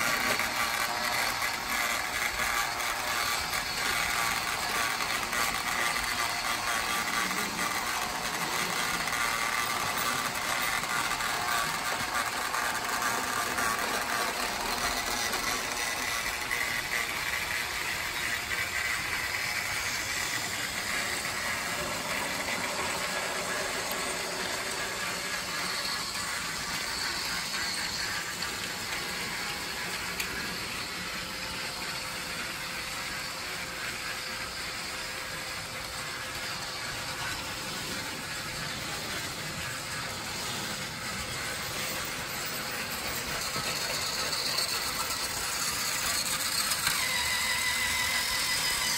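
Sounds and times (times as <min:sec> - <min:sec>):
toy train motor and gears: 0:00.0 - 0:48.9.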